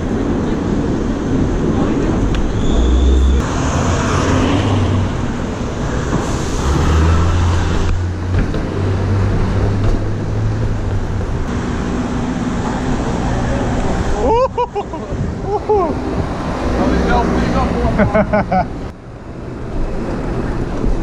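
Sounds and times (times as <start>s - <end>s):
rumble of passing vehicles: 0.0s - 21.0s.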